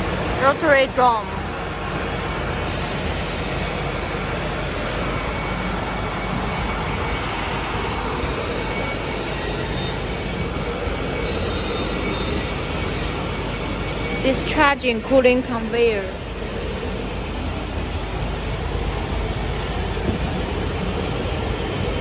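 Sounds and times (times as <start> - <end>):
faint high whines: 0.0 - 22.0
furnace plant mechanical rumble: 0.0 - 22.0.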